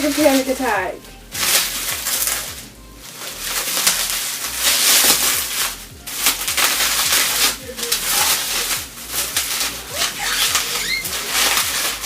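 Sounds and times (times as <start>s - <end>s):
packing material rustling: 0.0s - 12.0s.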